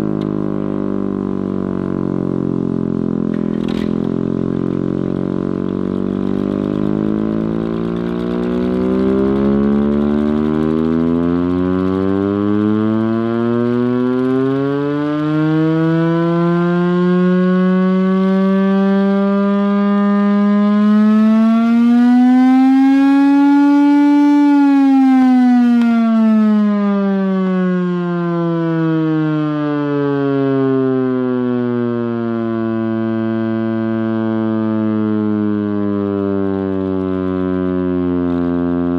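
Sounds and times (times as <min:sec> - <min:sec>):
air raid siren wailing: 0:00.0 - 0:38.9.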